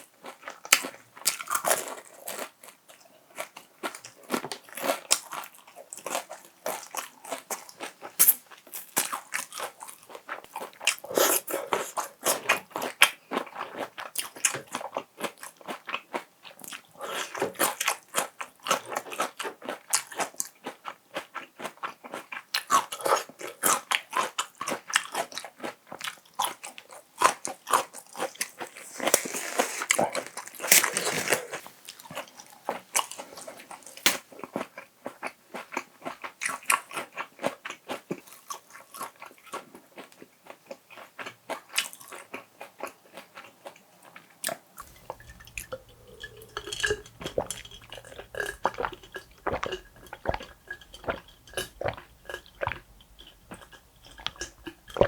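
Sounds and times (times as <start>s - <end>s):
crunching fried chicken: 0.1s - 43.9s, 44.5s - 55.0s.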